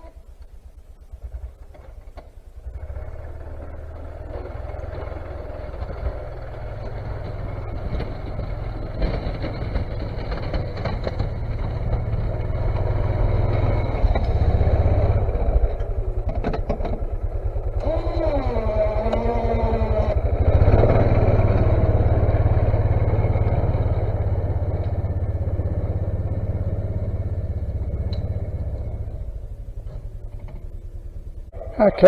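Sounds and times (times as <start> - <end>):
knocks and clatters: 0.0 - 31.6
snowplow engine running: 0.0 - 32.0.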